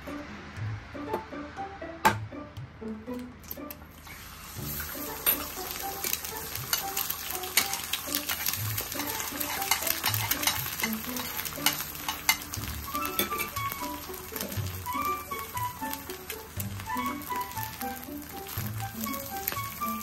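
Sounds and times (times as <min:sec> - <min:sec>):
egg sizzling in oil: 0:03.9 - 0:20.0.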